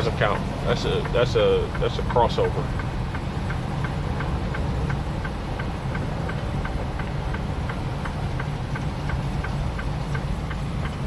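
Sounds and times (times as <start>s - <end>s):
tire chains ticking: 0.0s - 11.0s
truck engine and road rumble: 0.0s - 11.0s.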